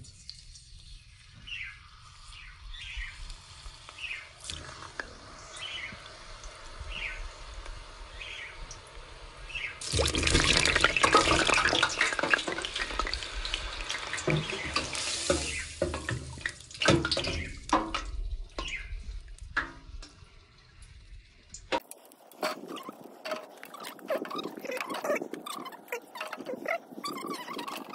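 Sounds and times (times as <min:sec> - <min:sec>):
hot oil sizzling and crackling: 0:00.0 - 0:23.3.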